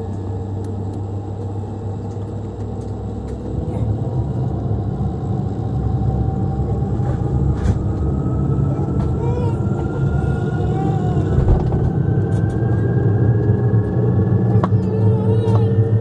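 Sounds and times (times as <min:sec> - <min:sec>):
turboprop engine rumble: 0:00.0 - 0:16.0.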